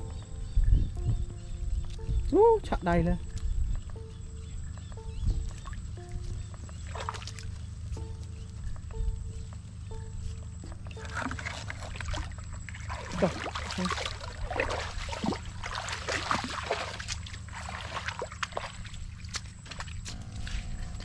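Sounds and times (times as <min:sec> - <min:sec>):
footsteps wading through muddy water: 0:00.0 - 0:21.0.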